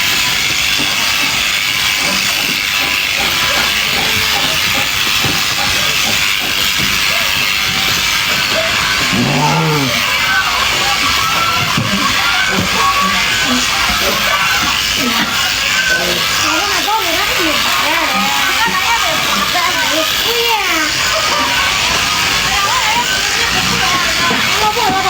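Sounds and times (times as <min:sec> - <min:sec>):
electric sheep shears hissing: 0:00.0 - 0:25.0.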